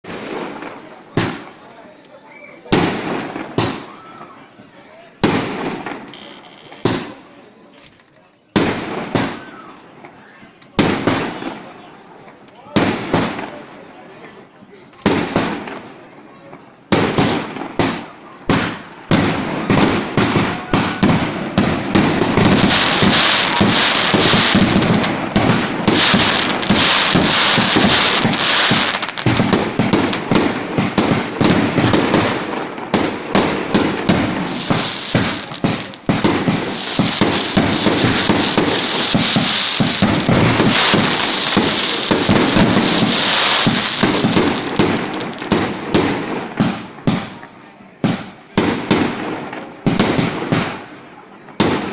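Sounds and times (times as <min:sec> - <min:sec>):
fireworks bangs and crackling: 0:00.0 - 0:04.4, 0:05.2 - 0:07.5, 0:08.5 - 0:14.0, 0:14.9 - 0:51.9.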